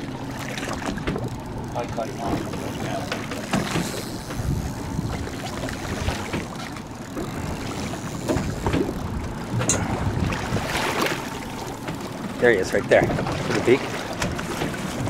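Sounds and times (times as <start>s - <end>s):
water slapping boat hull: 0.0s - 15.0s
wind buffeting microphone: 0.9s - 15.0s.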